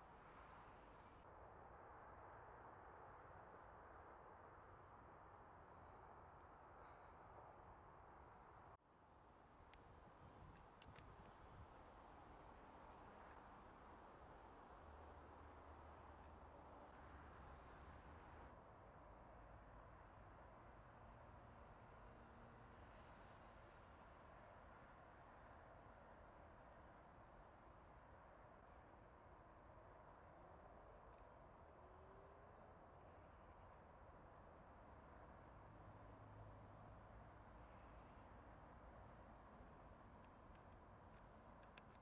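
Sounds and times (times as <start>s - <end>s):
outdoor background noise: 0.0s - 42.0s.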